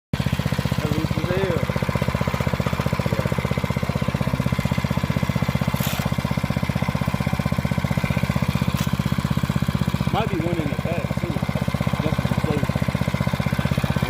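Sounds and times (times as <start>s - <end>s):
small motorbike engine idling: 0.2s - 14.0s.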